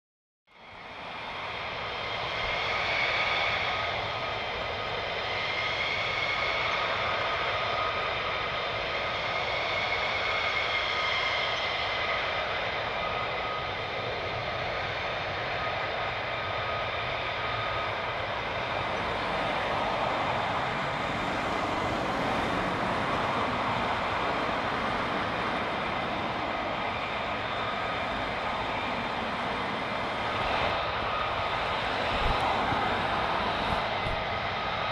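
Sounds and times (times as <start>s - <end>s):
jet engine whine: 0.5s - 34.9s
rush of jet engine noise: 0.5s - 34.9s.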